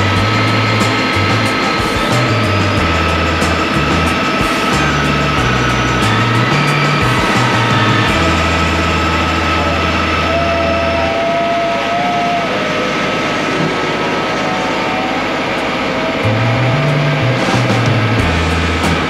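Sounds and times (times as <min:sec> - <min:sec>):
music with deep bass notes: 0:00.0 - 0:19.0
tractor engine running: 0:00.0 - 0:19.0.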